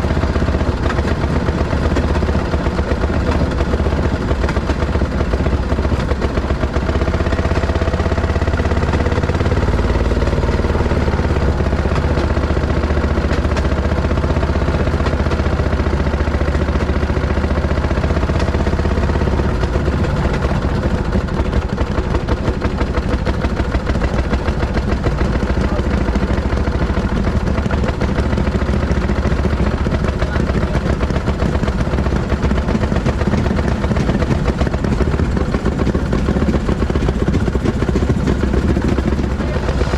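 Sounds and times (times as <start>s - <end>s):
rail motorcar engine running: 0.0s - 39.9s.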